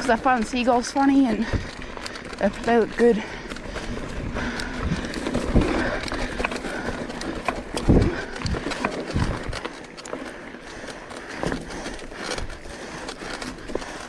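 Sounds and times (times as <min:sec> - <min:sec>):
bike rattling: 0:00.0 - 0:14.0
tyres crunching on dirt: 0:00.0 - 0:14.0.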